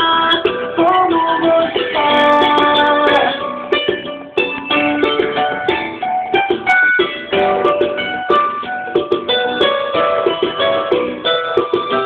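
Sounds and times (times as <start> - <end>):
electric keyboard melody: 0.0 - 12.0.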